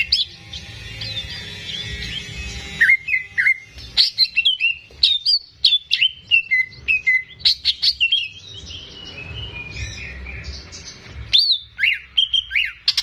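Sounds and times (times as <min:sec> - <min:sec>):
bird singing sharp whistled notes: 0:00.0 - 0:13.0.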